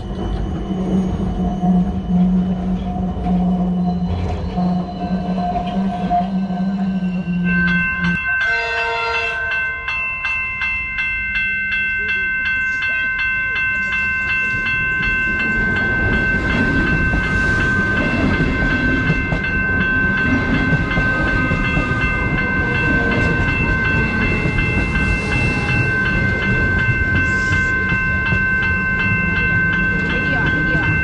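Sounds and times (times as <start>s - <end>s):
train wheels rumbling on track: 0.0s - 8.3s, 11.9s - 31.0s.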